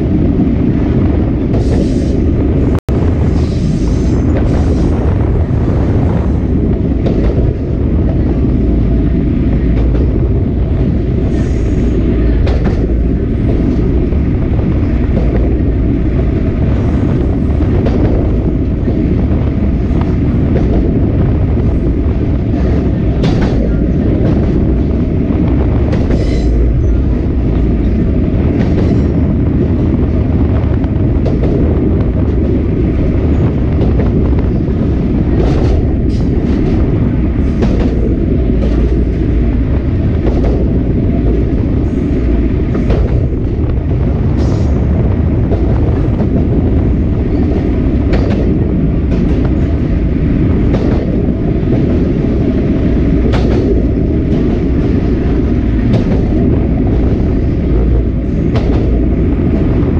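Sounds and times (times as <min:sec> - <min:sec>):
train wheels rumbling on rails: 0:00.0 - 0:59.9
sharp rail clicks: 0:06.6 - 0:59.9.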